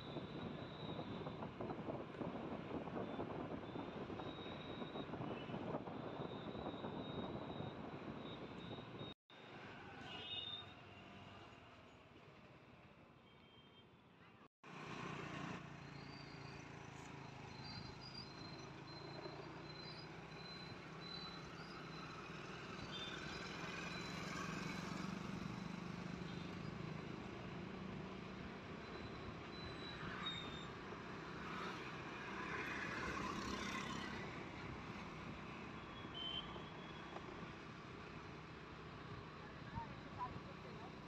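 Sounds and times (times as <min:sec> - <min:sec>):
road and wind noise: 0:00.0 - 0:13.2, 0:14.2 - 0:41.0.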